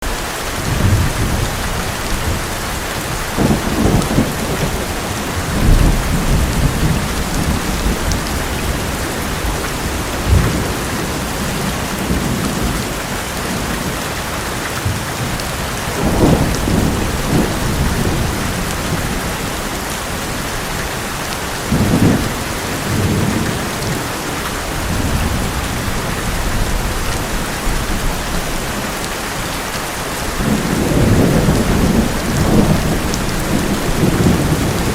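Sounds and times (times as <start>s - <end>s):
heavy rain on metal roof: 0.0s - 34.9s
thunder rumbling: 0.6s - 13.9s, 14.8s - 34.9s.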